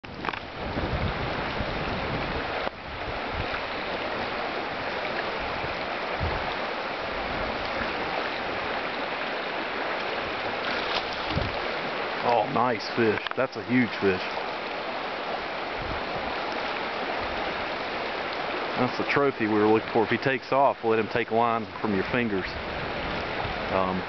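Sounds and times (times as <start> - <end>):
river running over rocks: 0.0 - 24.0.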